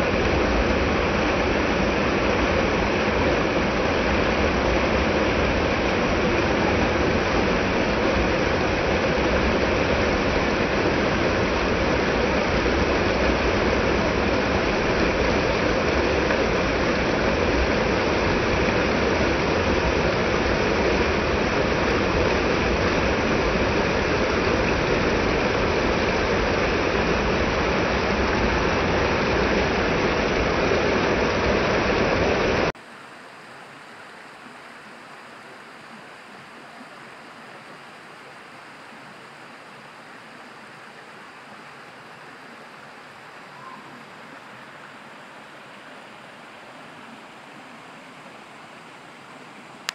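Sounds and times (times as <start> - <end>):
stream splashing over rocks: 0.0 - 49.9.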